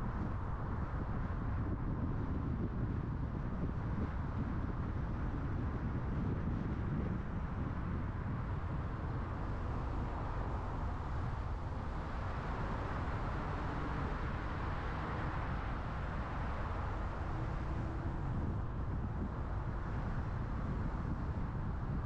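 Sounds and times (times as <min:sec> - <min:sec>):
car tyres and engine rumble: 0:00.0 - 0:22.0.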